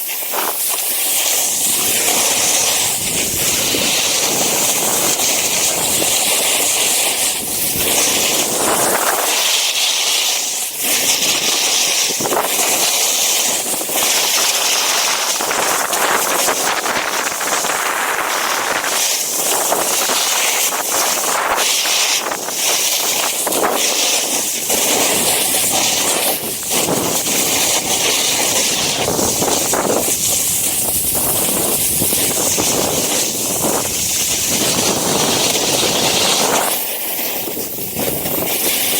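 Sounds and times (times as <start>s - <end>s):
wind blowing across microphone: 0.0s - 9.6s, 10.8s - 38.9s.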